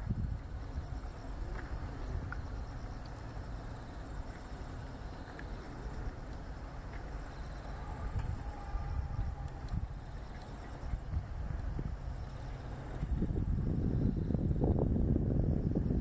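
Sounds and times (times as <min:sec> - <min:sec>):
pulsing insect trills: 0:00.0 - 0:16.0
wind rumble on microphone: 0:00.0 - 0:16.0.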